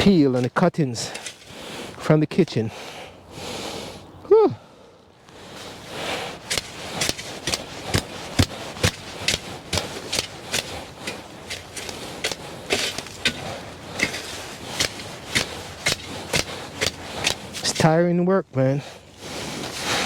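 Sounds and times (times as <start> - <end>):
garden tool scraping soil: 0.0 - 2.1, 5.4 - 20.0.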